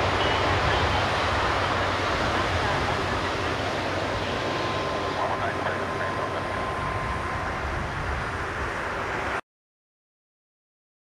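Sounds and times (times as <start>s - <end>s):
jet engine noise: 0.0s - 9.4s.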